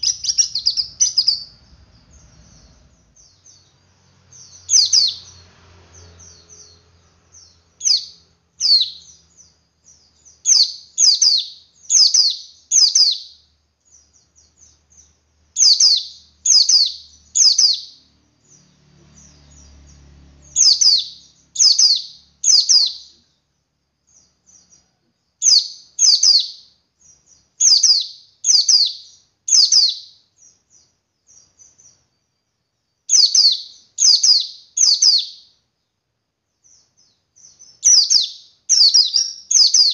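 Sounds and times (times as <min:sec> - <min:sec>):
bird twittering: 0:00.0 - 0:23.3, 0:24.1 - 0:32.0, 0:33.1 - 0:35.6, 0:36.6 - 0:39.9
bird chirping: 0:00.0 - 0:39.9.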